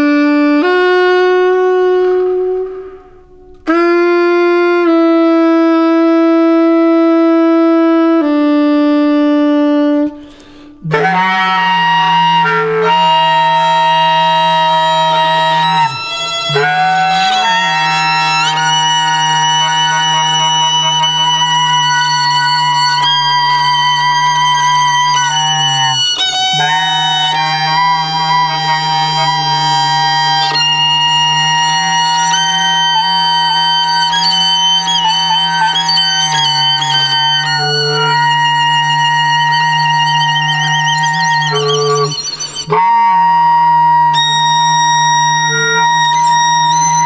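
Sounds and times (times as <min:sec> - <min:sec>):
soprano saxophone long notes: 0:00.0 - 0:47.0.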